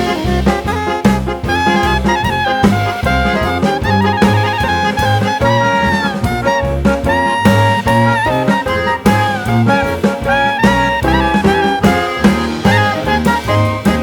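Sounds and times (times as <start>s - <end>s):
up-tempo jazz music: 0.0s - 14.0s.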